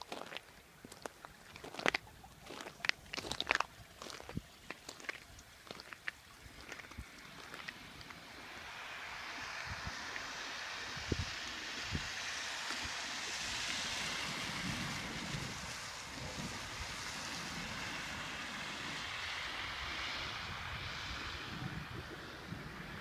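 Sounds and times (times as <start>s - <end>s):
wind rumbling on microphone: 0.1s - 23.0s.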